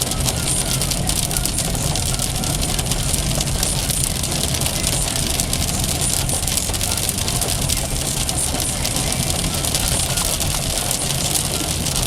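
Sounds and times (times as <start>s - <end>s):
heavy rain drumming on a car roof: 0.0s - 12.0s
low rumble of car: 0.0s - 12.0s.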